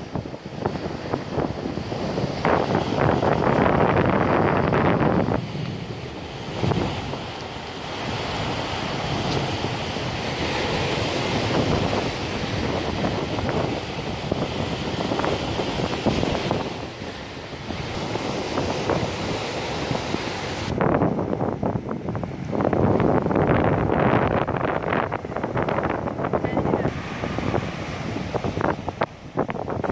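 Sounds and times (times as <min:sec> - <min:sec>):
ocean surf washing over rocks: 0:00.0 - 0:29.9
wind buffeting microphone: 0:00.0 - 0:29.9.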